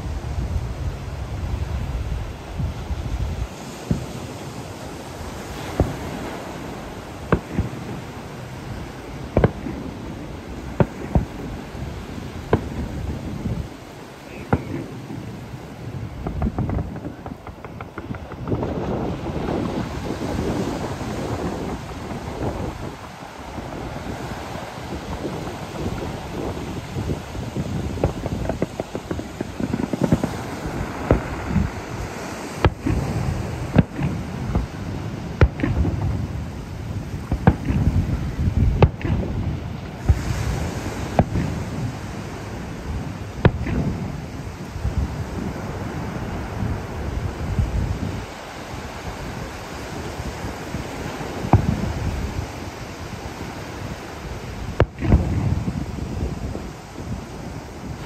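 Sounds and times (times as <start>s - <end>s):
firework bangs: 0.0s - 58.0s
surf washing: 0.0s - 58.0s.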